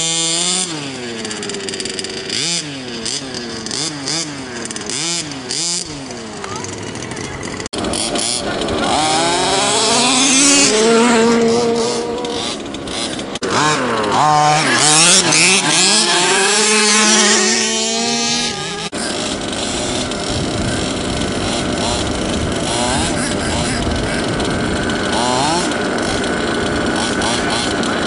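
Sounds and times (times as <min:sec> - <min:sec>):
rc car engines revving: 0:00.0 - 0:28.0.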